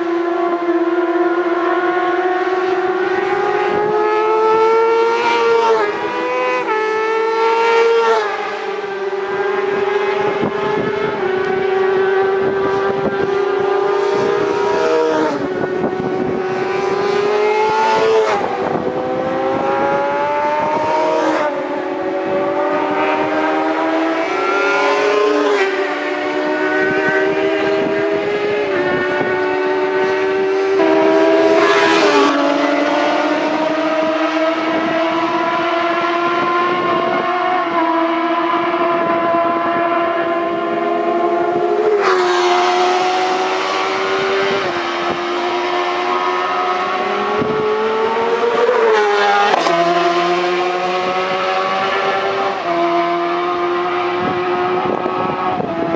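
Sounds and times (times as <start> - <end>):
racing motorcycle engine revving: 0.0 - 55.9.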